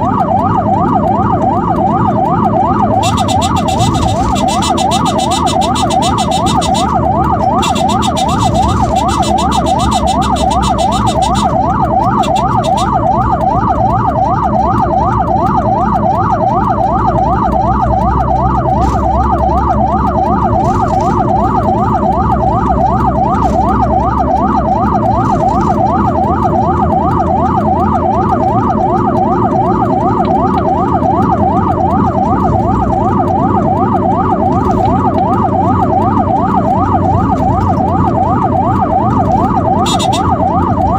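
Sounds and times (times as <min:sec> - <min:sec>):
ambulance siren yelping: 0:00.0 - 0:40.9
road and engine noise: 0:00.0 - 0:40.9.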